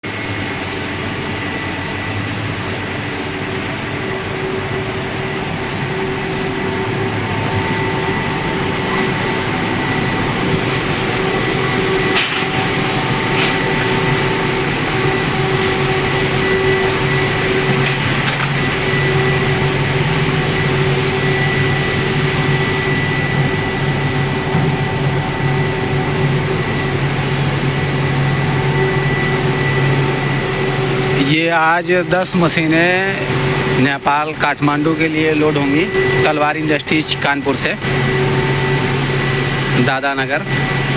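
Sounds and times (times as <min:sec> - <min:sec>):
concrete mixer engine running: 0:00.0 - 0:40.9.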